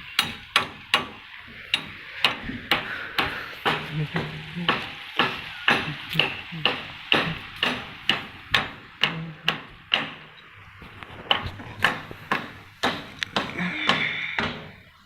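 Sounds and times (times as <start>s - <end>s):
hammer blows on formwork: 0.0s - 10.4s, 11.2s - 14.8s.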